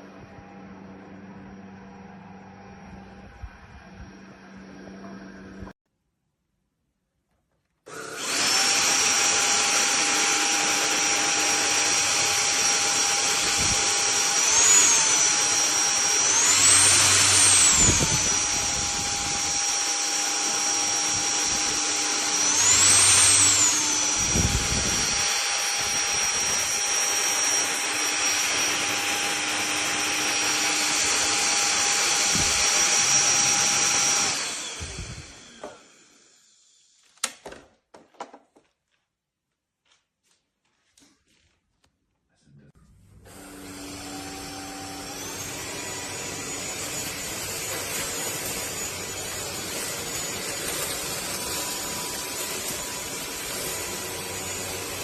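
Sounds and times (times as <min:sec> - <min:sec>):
vacuum cleaner motor whine: 0:00.0 - 0:05.7, 0:07.9 - 0:36.9, 0:43.1 - 0:55.0.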